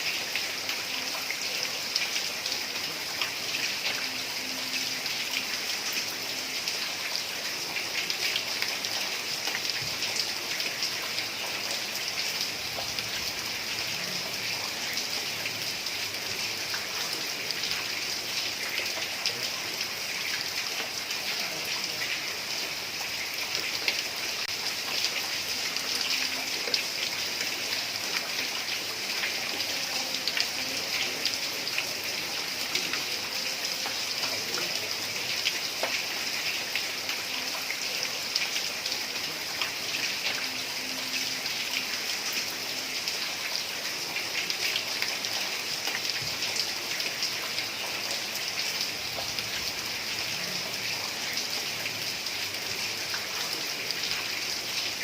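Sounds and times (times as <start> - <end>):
heavy rain on a tile roof: 0.0 - 55.0.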